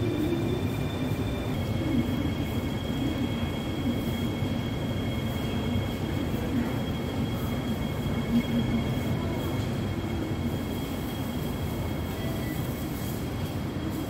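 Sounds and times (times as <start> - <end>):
constant high-pitched tones: 0.0 - 13.6
train low rumble: 0.0 - 14.0.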